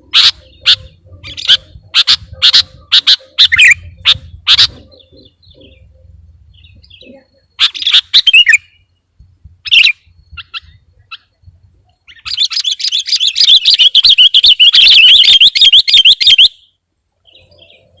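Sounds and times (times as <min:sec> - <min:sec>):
fast high bird warble: 0:00.0 - 0:08.9, 0:09.6 - 0:16.7
bird chirps: 0:00.0 - 0:18.0.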